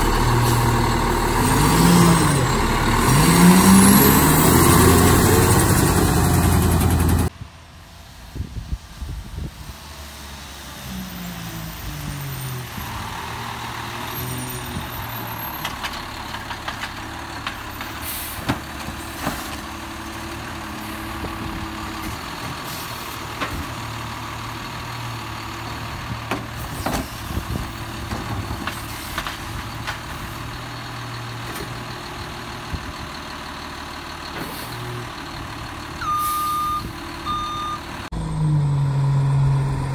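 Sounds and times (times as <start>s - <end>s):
garbage truck engine revving: 0.0s - 7.3s, 12.4s - 39.9s.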